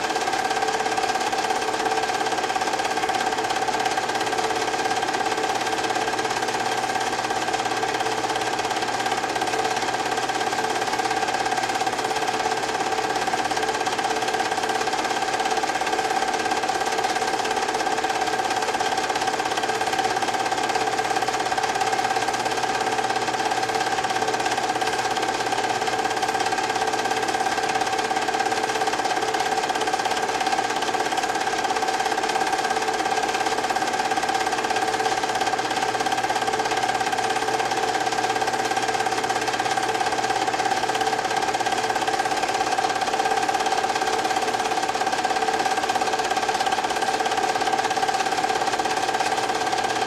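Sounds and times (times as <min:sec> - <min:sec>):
film projector whirring: 0:00.0 - 0:50.0.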